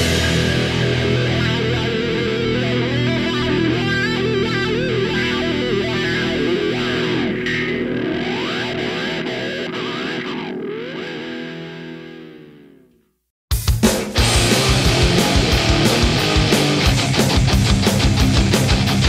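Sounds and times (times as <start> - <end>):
rock music with distorted guitar: 0.0 - 12.9, 13.5 - 19.0.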